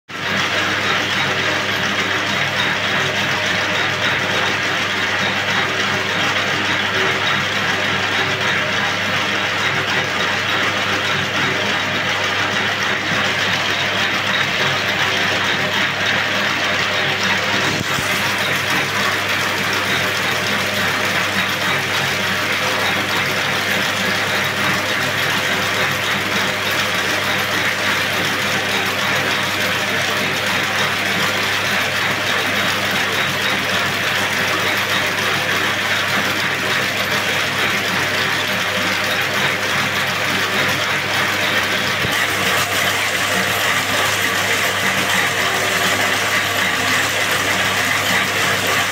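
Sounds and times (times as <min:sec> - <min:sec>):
braiding machine clattering: 0:00.2 - 0:48.9.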